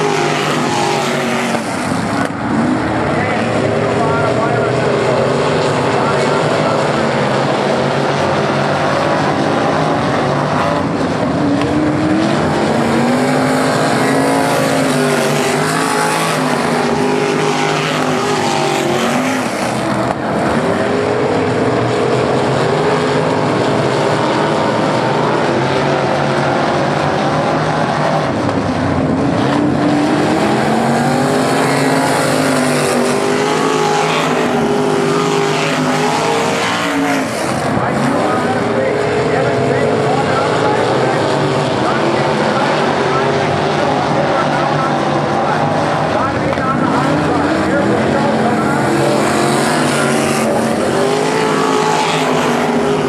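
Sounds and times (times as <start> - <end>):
race car engines racing: 0.0 - 53.0.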